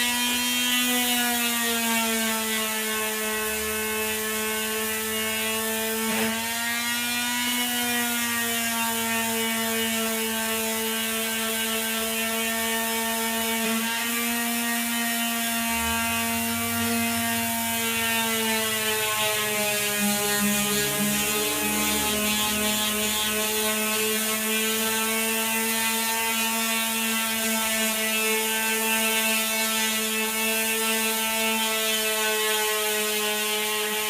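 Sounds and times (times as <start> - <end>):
electric sander whining: 0.0 - 34.0.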